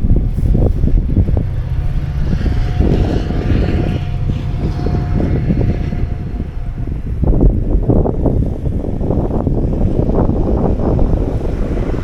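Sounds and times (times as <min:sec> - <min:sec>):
engine drone with whine: 0:00.0 - 0:12.0
wind rumble on microphone: 0:00.0 - 0:12.0.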